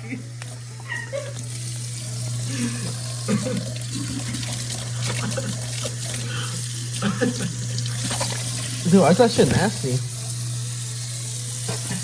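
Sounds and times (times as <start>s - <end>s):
kitchen tap running: 0.0s - 12.0s.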